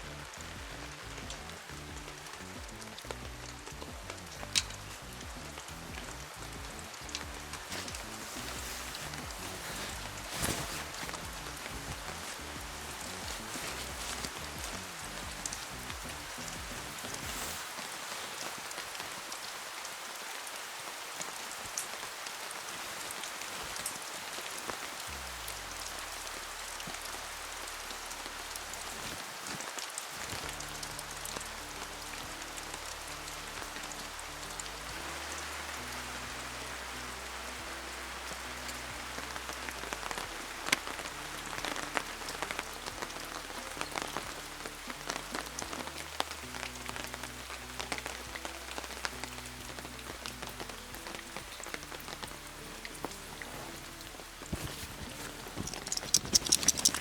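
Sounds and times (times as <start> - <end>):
rain hissing: 0.0 - 57.0
raindrops clicking on a surface: 0.0 - 57.0.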